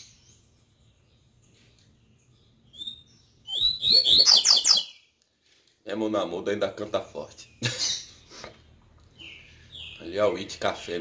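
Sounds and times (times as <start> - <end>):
bird singing: 0.0 - 8.4, 9.0 - 11.0.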